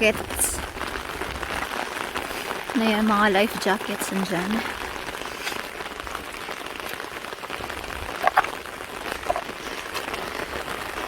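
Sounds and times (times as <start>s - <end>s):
water hissing and pattering: 0.0s - 11.0s.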